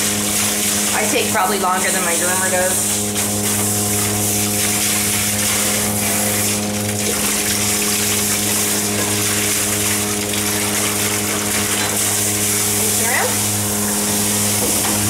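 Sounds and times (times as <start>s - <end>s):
electric pump humming: 0.0s - 15.0s
water spraying and splashing: 0.0s - 15.0s.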